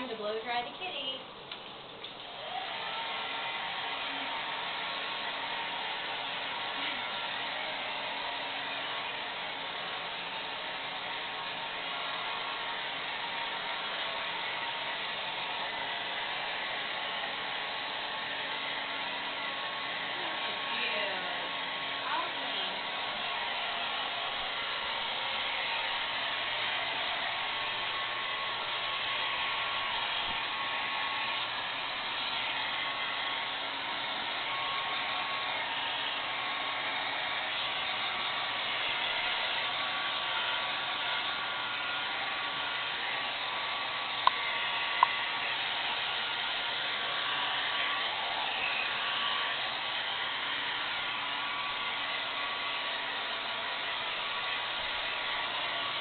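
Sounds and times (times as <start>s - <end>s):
hair dryer blowing: 0.0s - 1.2s, 2.0s - 56.0s.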